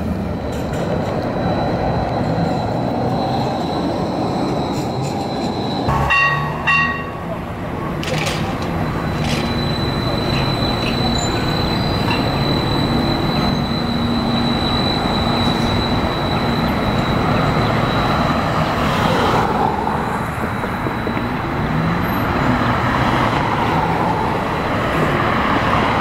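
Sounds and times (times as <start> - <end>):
city traffic noise: 0.0 - 26.0
streetcar running on rails: 0.0 - 26.0.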